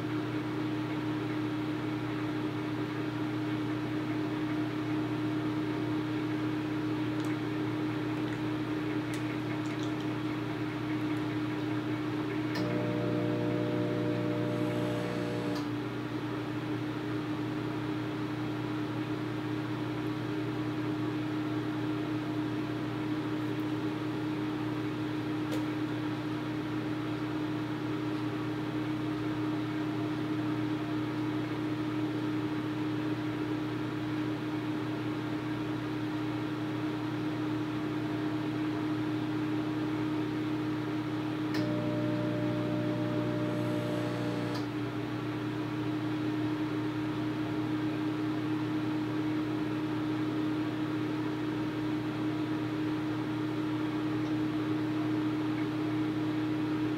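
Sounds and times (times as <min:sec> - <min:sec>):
microwave oven humming: 0:00.0 - 0:56.9.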